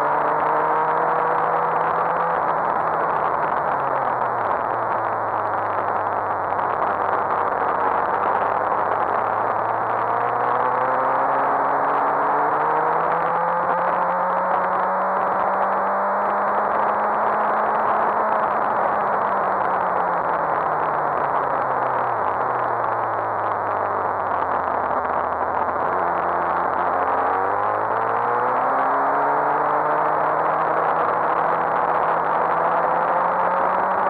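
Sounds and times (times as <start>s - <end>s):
motorcycle engine at speed: 0.0s - 34.0s.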